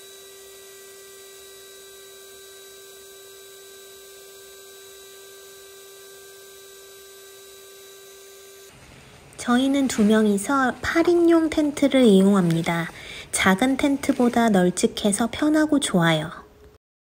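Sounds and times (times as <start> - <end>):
electric air pump humming: 0.0 - 16.7.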